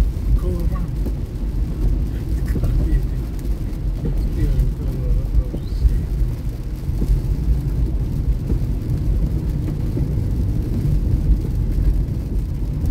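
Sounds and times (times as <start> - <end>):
car driving on wet road: 0.0 - 12.9.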